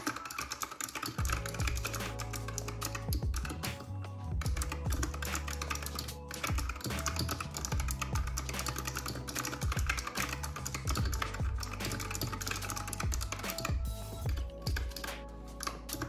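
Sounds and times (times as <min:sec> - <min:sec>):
mechanical keyboard typing: 0:00.0 - 0:16.0
background music with bass: 0:01.2 - 0:16.0.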